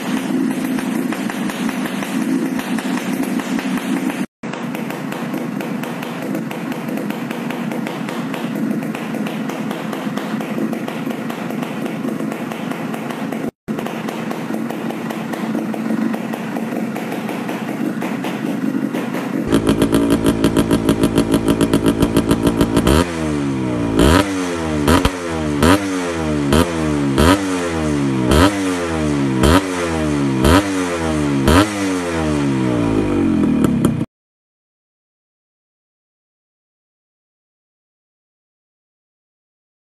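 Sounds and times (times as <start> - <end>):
two-stroke motorcycle engine revving: 0.0 - 34.1.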